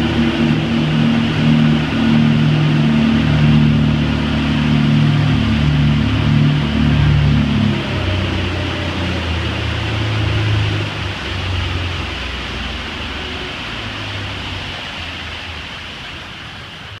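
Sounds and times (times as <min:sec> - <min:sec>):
outboard engines droning: 0:00.0 - 0:17.0
rush of wind and water: 0:00.0 - 0:17.0.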